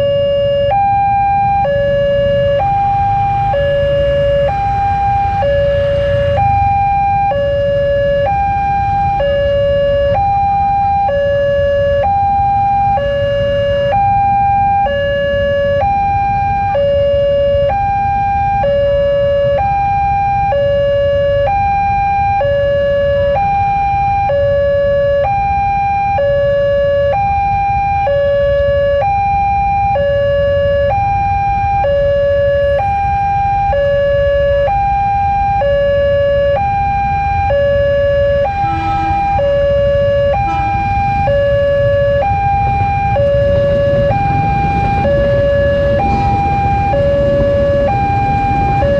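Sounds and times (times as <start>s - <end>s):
level crossing two-tone alarm: 0.0s - 48.9s
low traffic rumble: 0.0s - 48.9s.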